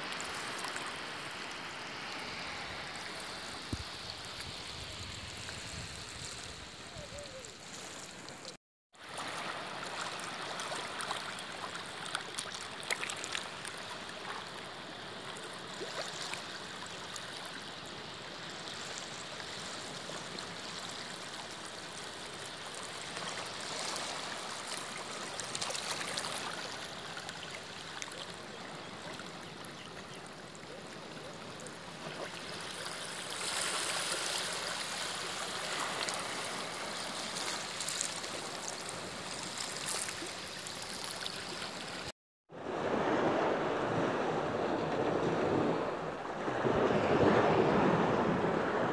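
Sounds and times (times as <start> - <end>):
water washing over rocks: 0.0 - 17.8, 18.4 - 42.1
small waves lapping: 0.0 - 48.9.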